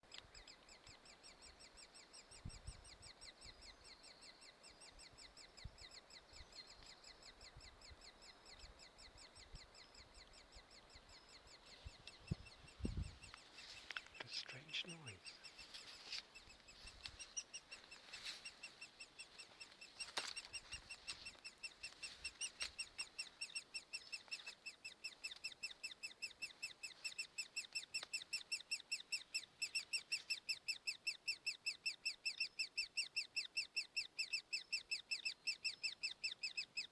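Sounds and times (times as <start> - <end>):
nestlings begging chirps: 0.3 - 36.9.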